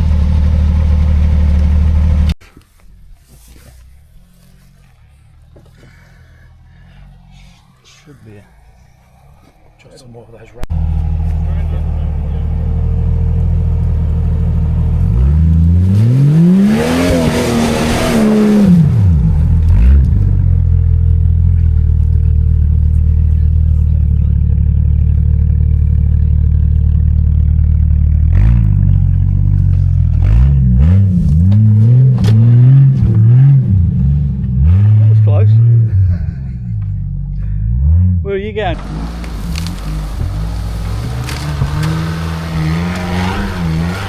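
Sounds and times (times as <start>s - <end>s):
car engine revving: 3.7s - 44.0s.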